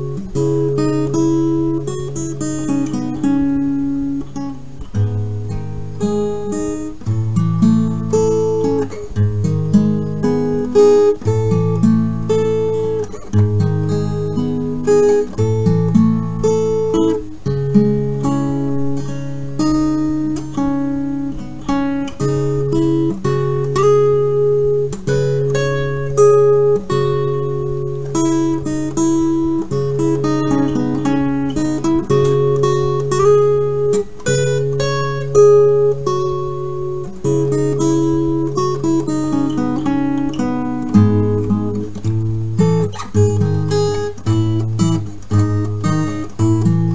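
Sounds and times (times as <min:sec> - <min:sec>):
acoustic guitar music: 0:00.0 - 0:46.9.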